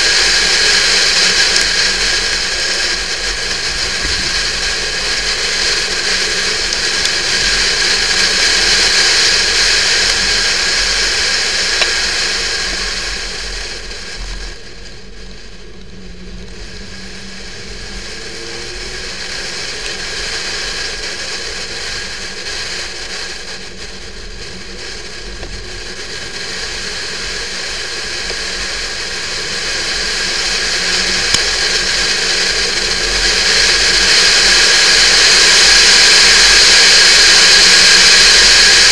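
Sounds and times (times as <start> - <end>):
road and engine noise: 0.0 - 38.9.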